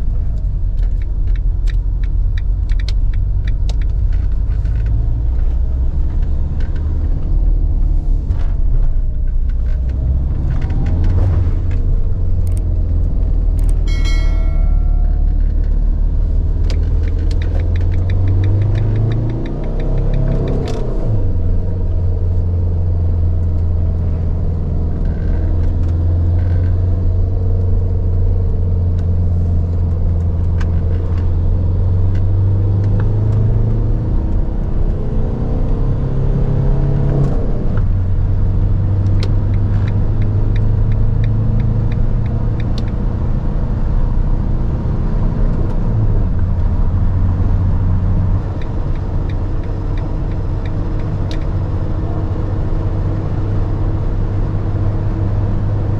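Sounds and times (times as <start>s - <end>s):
diesel engine accelerating: 0.0s - 55.9s
road and wind noise: 0.0s - 55.9s.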